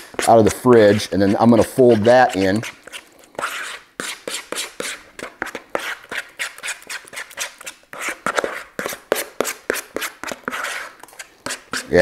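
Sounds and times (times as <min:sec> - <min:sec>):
utensil scraping bowl sides: 0:00.0 - 0:12.0
utensil stirring in a bowl: 0:00.0 - 0:12.0.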